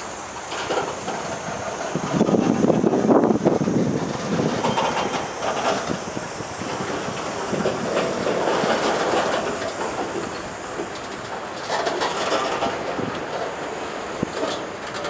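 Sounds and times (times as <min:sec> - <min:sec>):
freight train rolling on rails: 0:00.0 - 0:15.0
wheels clicking over track: 0:00.0 - 0:15.0.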